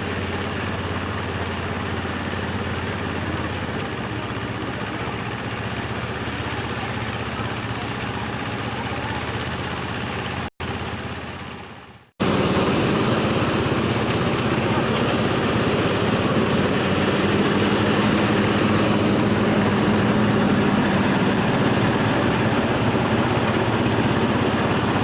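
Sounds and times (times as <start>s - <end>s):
harvester engine humming: 0.0s - 25.0s
louder engine: 0.0s - 25.0s.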